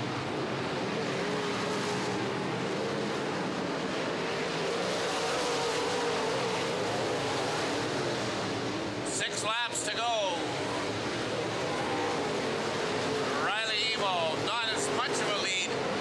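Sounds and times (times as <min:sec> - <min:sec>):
race car engines roaring: 0:00.0 - 0:16.0.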